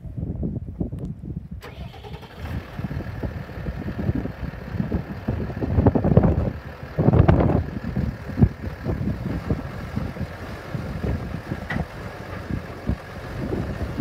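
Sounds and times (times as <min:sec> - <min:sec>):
wind rumble on microphone: 0:00.0 - 0:14.0
tractor diesel engine running: 0:01.6 - 0:14.0.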